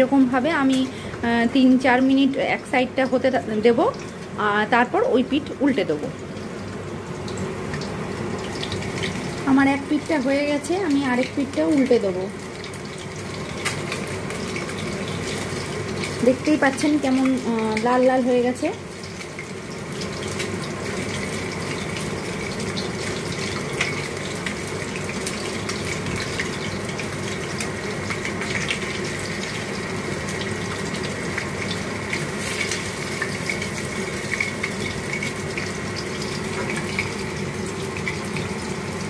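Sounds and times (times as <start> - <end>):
fish sizzling in hot oil: 0.0 - 39.0.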